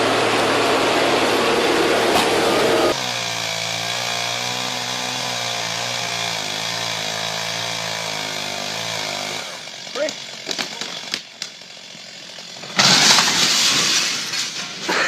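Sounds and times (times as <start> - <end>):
chainsaw engine running: 0.0 - 13.7.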